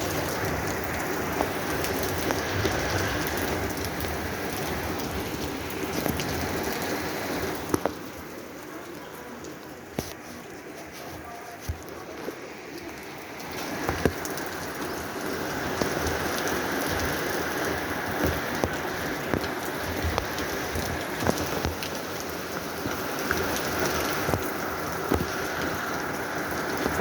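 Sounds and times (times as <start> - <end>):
heavy raindrops tapping: 0.0 - 27.0
rain falling: 0.0 - 27.0.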